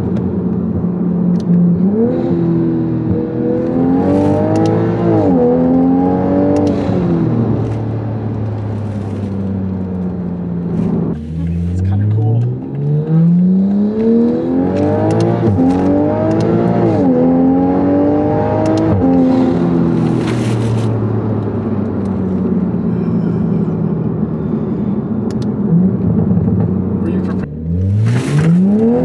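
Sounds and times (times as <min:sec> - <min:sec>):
car engine accelerating hard: 0:00.0 - 0:29.0
tyre and road noise: 0:00.0 - 0:29.0.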